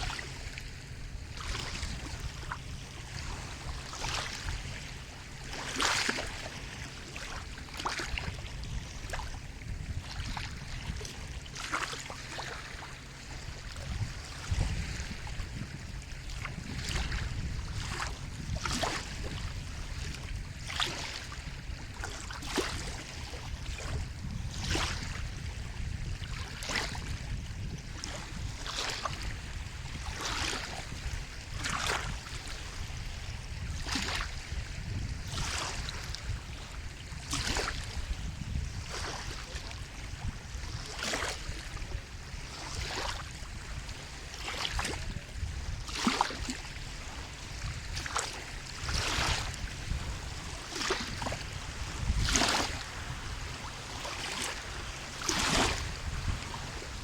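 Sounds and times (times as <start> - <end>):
sea water lapping and splashing: 0.0 - 57.0
surf rumble: 0.0 - 57.0
wind: 0.0 - 57.0.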